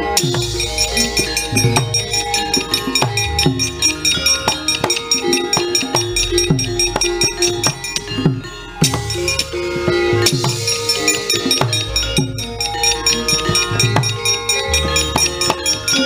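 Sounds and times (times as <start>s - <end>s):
hand drum strokes: 0.0s - 16.0s
metallic percussion notes: 0.0s - 16.0s.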